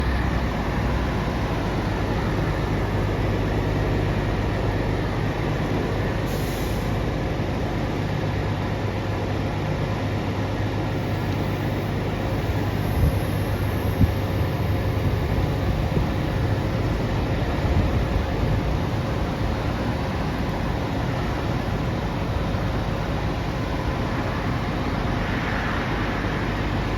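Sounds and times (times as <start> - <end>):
truck engine rumbling: 0.0 - 25.2.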